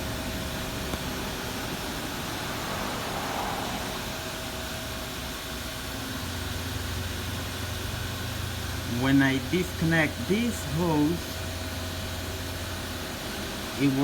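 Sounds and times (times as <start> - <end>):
shop machinery humming: 0.0 - 14.0.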